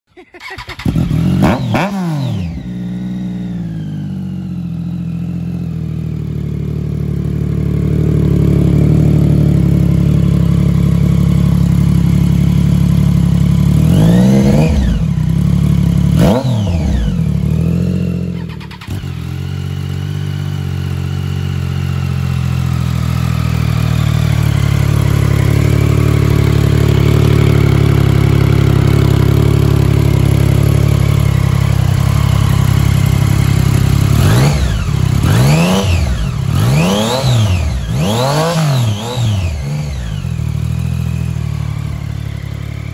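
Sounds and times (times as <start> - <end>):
motorcycle engine idling and revving: 0.3 - 42.9.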